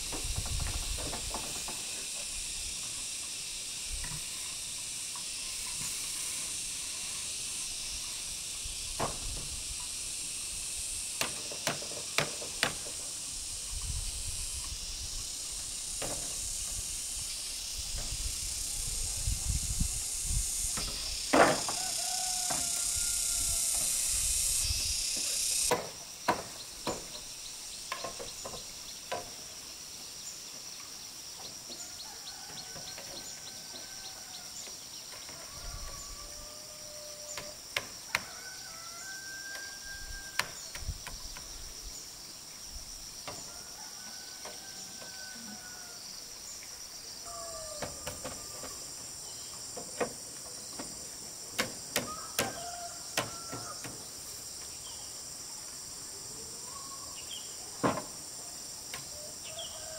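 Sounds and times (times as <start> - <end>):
insects droning: 0.0 - 59.9
loud steady hiss: 0.0 - 59.9.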